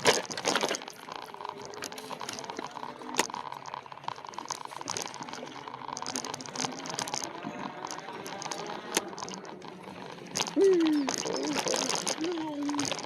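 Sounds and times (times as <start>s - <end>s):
bike clicks and rattles: 0.0s - 13.0s
bike tyres crunching on trail: 0.0s - 13.0s.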